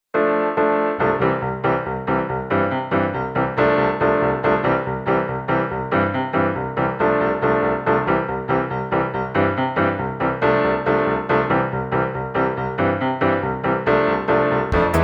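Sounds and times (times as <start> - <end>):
piano music with chords: 0.1 - 15.0.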